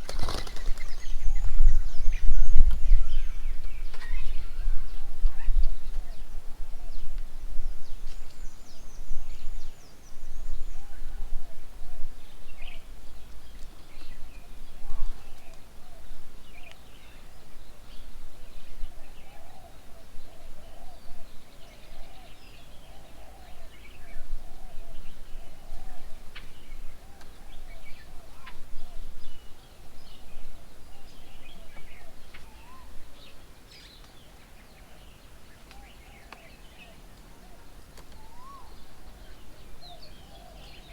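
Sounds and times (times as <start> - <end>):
birds chirping and calling: 0.0 - 40.9
low warbling bird calls: 0.0 - 40.9.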